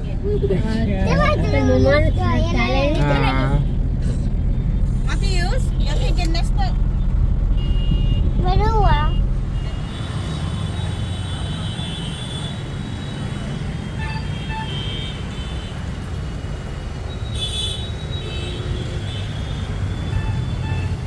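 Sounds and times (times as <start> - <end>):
rumble of traffic engines: 0.0 - 21.0.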